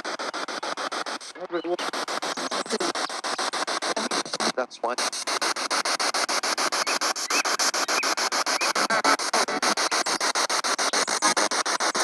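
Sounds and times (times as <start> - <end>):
radio static sweeping: 0.0 - 12.0
scraps of broadcast sound: 0.0 - 12.0.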